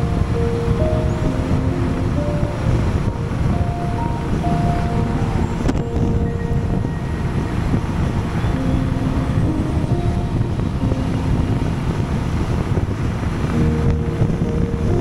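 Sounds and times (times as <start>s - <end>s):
motorcycle engine and tyre noise: 0.0s - 15.0s
wind rushing on microphone: 0.0s - 15.0s.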